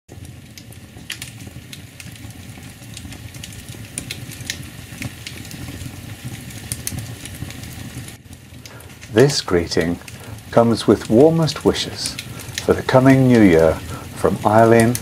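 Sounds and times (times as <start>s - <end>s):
fire crackling and popping: 0.1s - 15.0s
low rumble of flames: 0.1s - 15.0s.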